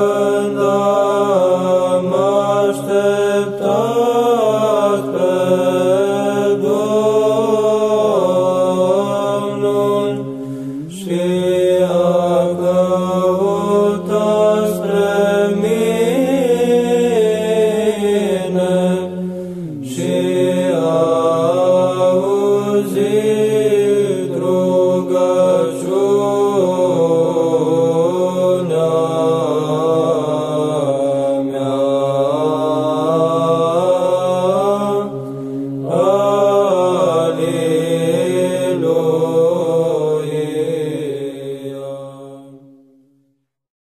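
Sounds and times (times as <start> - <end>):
men chanting a melody: 0.0 - 42.6
held vocal drone: 0.0 - 42.9.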